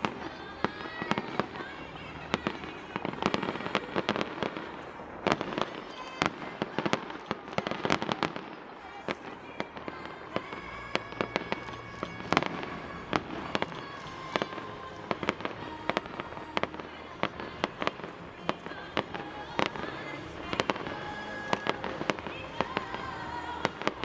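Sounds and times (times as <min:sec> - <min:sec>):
fireworks bangs and cracks: 0:00.0 - 0:24.0.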